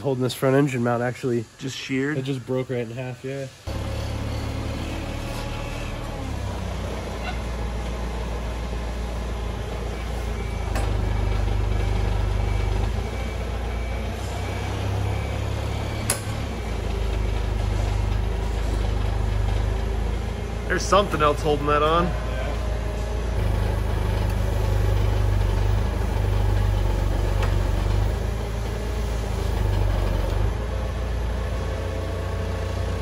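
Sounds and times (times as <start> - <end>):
low machine rumble: 3.7 - 33.0.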